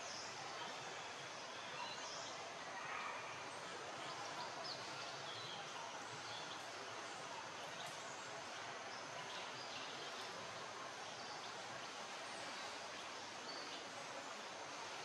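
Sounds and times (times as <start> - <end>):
forest ambience hiss: 0.0 - 15.0.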